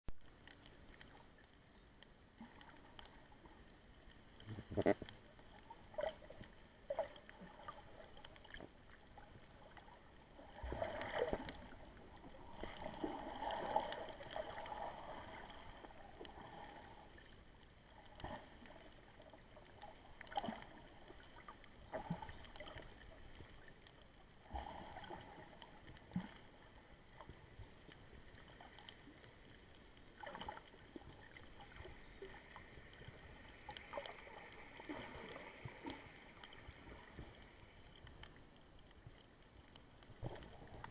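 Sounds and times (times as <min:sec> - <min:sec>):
underwater water movement and bubbling: 0:00.2 - 0:40.9.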